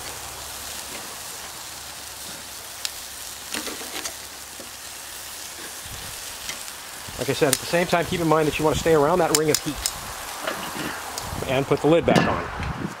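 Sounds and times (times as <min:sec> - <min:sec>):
meat sizzling on a grill: 0:00.0 - 0:12.2.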